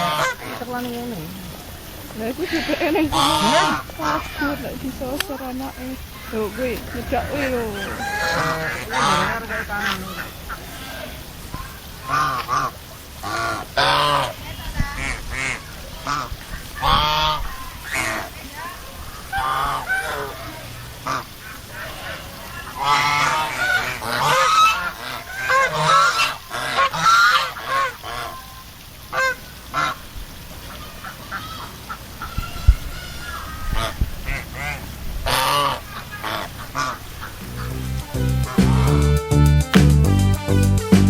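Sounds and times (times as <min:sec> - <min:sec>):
geese honking: 0:00.0 - 0:30.0, 0:30.6 - 0:41.0
ducks calling: 0:00.0 - 0:41.0.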